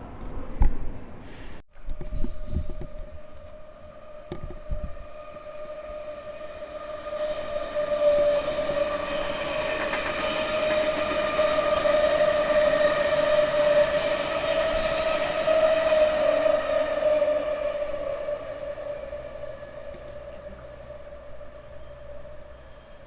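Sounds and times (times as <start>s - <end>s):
rail noise: 1.0s - 23.0s
electric train whine: 1.8s - 23.0s.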